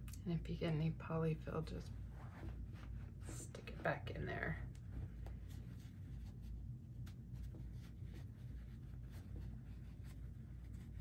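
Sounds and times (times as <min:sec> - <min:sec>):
steady low hum: 0:00.0 - 0:11.0
yarn rustling while knitting: 0:01.9 - 0:11.0.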